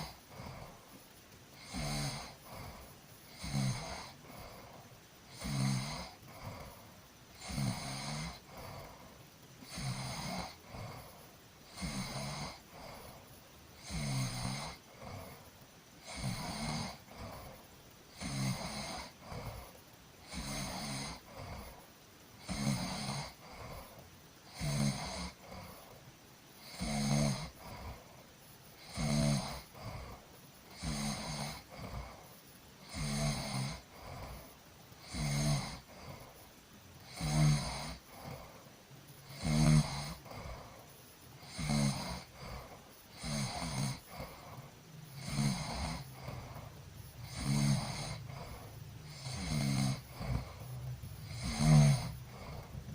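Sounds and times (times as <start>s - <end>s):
person snoring: 0.0s - 26.0s, 26.6s - 28.2s, 28.8s - 52.9s.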